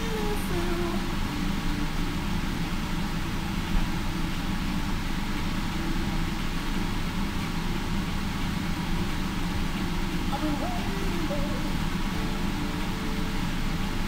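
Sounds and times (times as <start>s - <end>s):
passing train rumble: 0.0s - 14.0s.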